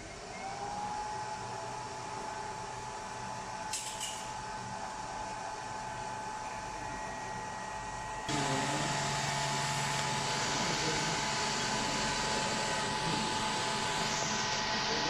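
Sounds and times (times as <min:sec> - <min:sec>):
hot-air blowers rushing: 0:00.0 - 0:15.0.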